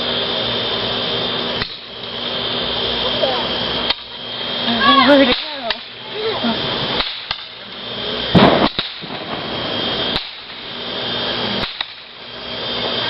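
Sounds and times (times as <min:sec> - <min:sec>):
fireworks crackle: 0:00.0 - 0:13.0
fireworks bangs: 0:01.5 - 0:13.0.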